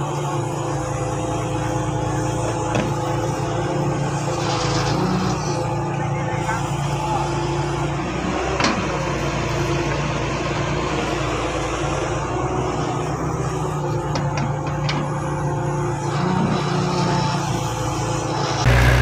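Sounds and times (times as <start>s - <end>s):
diesel engines under load: 0.0s - 19.0s.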